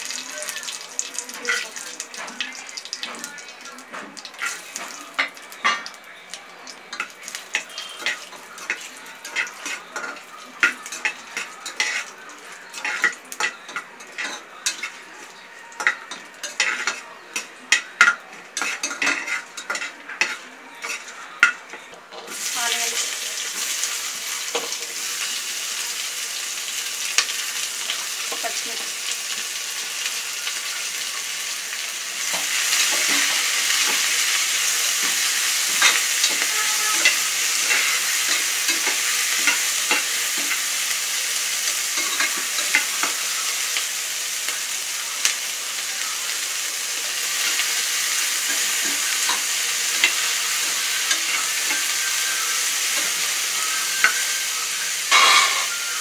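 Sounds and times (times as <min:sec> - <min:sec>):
loud sizzle in hot oil: 0:00.0 - 0:56.0.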